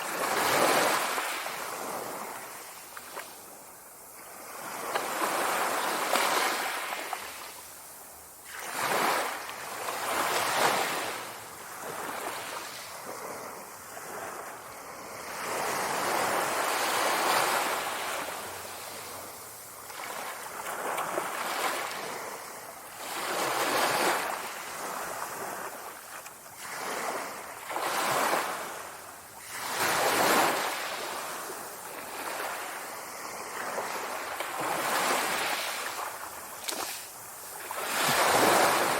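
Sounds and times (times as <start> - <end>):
sea waves washing ashore: 0.0 - 38.9.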